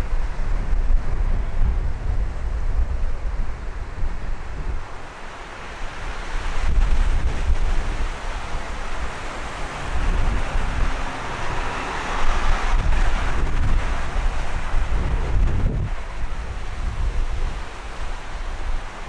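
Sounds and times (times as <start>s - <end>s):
steady rushing noise: 0.0s - 19.0s
wind buffeting microphone: 0.0s - 19.0s.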